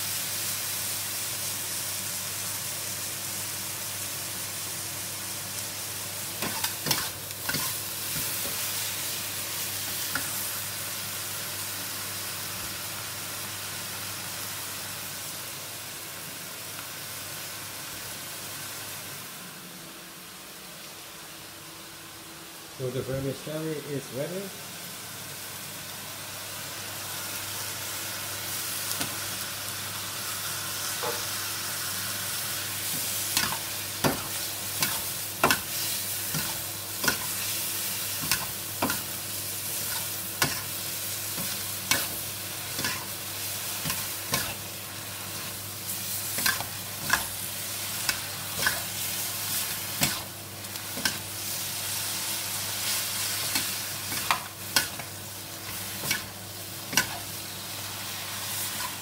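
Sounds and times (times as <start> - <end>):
vegetables sizzling in a wok: 0.0 - 59.0.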